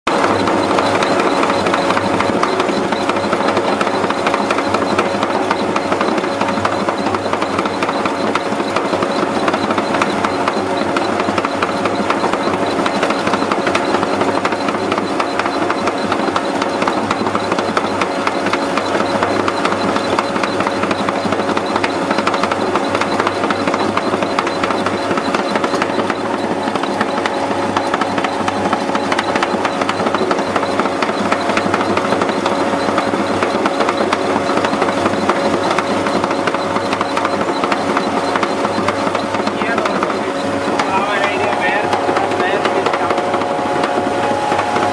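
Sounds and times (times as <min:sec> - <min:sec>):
compressor running: 0:00.1 - 0:44.9.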